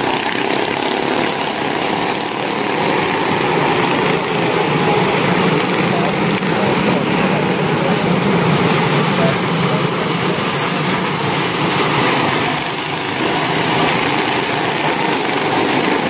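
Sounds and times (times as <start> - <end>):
small race car engines buzzing: 0.0 - 16.0.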